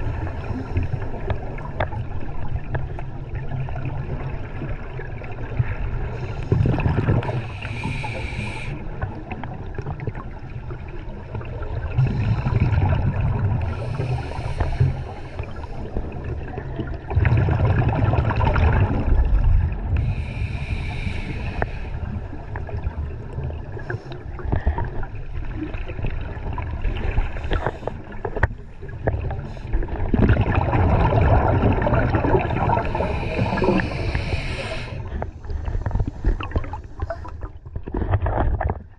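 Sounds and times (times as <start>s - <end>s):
regulator bubbles underwater: 0.0s - 38.9s.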